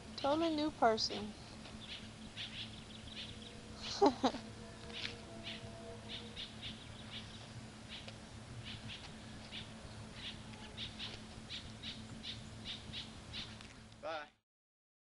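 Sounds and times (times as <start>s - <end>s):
steady low hum: 0.0s - 14.4s
bird chirping: 1.4s - 13.6s.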